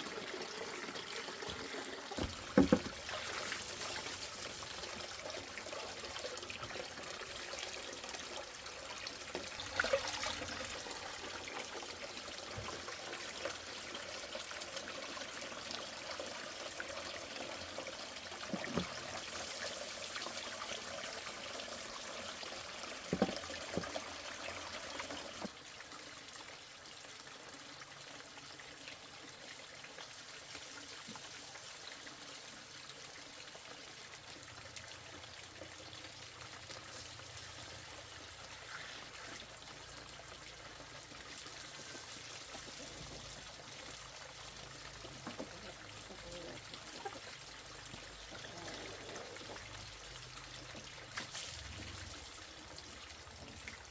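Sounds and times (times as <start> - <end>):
water pouring and trickling: 0.0 - 53.9.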